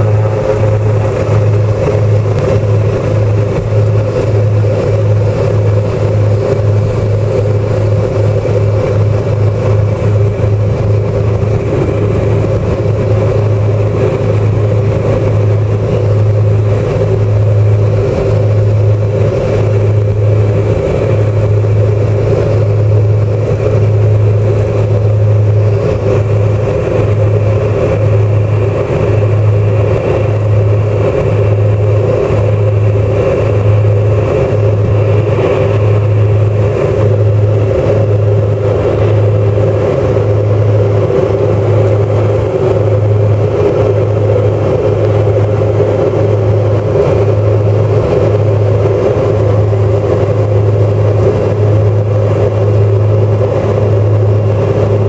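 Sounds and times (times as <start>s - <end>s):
propeller engines droning: 0.0s - 55.0s.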